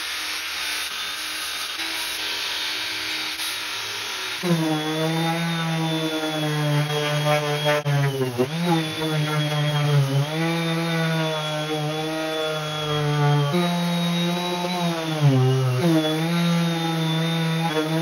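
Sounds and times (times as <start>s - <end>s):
orbital sander on wood: 0.0s - 18.0s.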